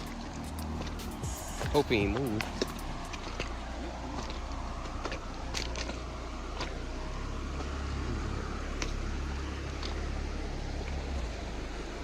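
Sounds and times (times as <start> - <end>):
creek water rushing: 0.0 - 12.0
deep low rumble: 0.0 - 12.0.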